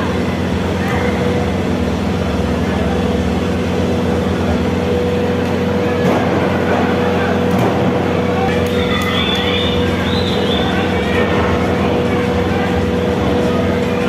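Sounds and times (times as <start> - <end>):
arena crowd din: 0.0 - 14.0
low electrical hum: 0.0 - 14.0.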